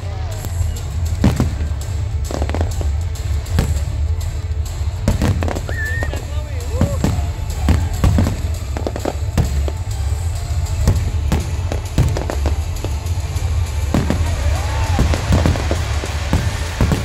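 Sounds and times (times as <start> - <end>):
fireworks bursting with loud bangs: 0.0 - 17.0.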